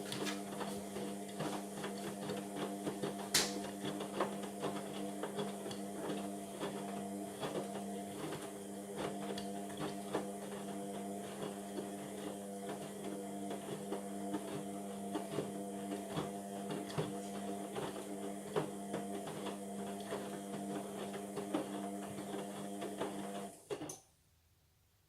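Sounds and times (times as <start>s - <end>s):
washing machine motor humming: 0.0s - 23.6s.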